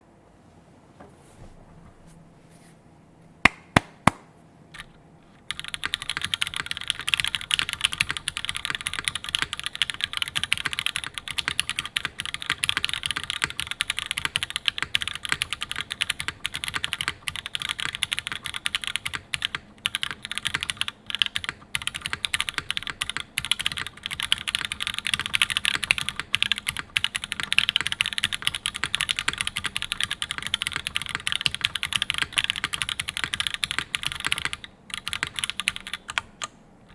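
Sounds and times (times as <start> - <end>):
mechanical keyboard typing: 4.8 - 36.9.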